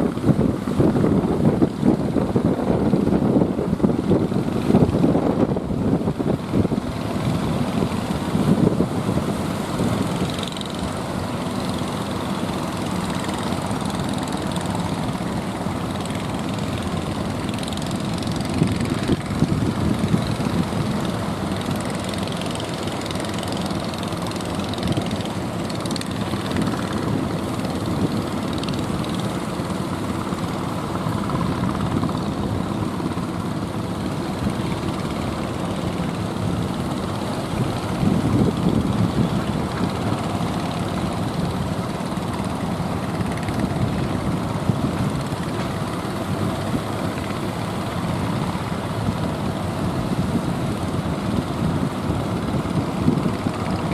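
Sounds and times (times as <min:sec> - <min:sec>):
motor boat engine droning: 0:00.0 - 0:53.9.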